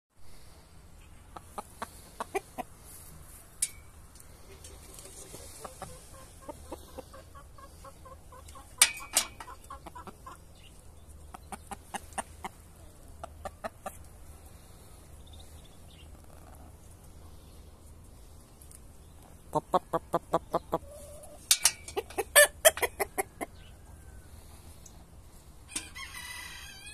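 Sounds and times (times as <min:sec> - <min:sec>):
chickens clucking: 0:01.0 - 0:26.9.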